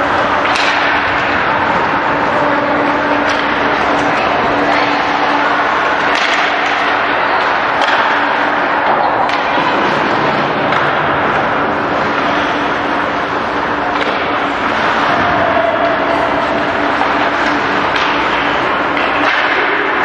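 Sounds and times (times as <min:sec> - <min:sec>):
hockey sticks clacking: 0:00.0 - 0:20.0
steady low hum: 0:00.0 - 0:20.0.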